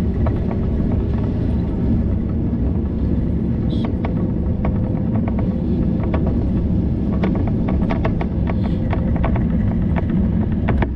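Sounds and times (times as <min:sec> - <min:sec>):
wind and tyres rumbling: 0:00.0 - 0:10.9.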